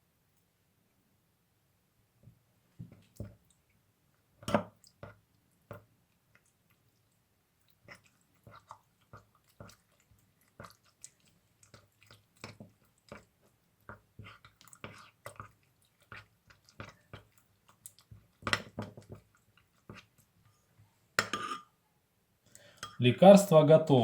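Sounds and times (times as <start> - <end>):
wet squelches of stirring berries: 2.3 - 21.6.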